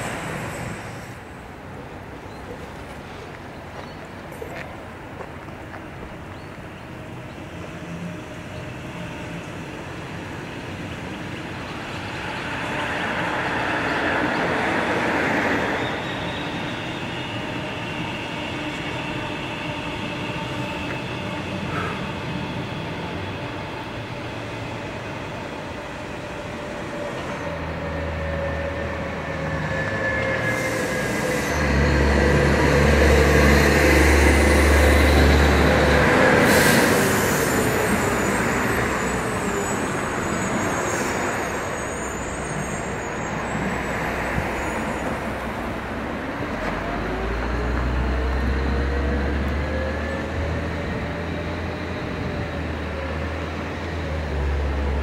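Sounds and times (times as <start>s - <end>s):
electric trains passing on rails: 0.0s - 55.0s.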